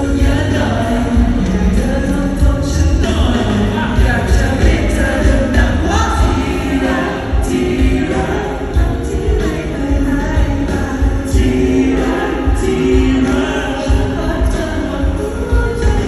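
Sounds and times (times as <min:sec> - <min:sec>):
bass: 0:00.0 - 0:16.0
person singing: 0:00.0 - 0:16.0
steady drum beat: 0:00.0 - 0:16.0.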